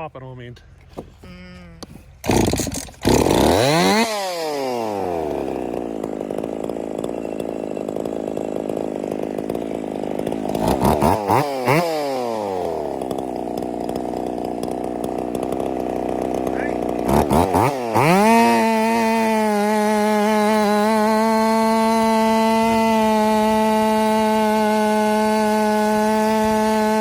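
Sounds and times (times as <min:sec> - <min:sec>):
chainsaw revving and idling: 0:02.1 - 0:27.0.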